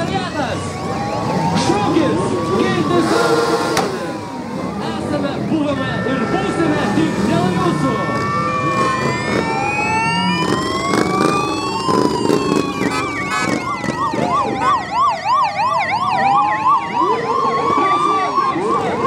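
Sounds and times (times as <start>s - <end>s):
police sirens wailing: 0.0s - 19.0s
siren yelping warble: 0.3s - 19.0s.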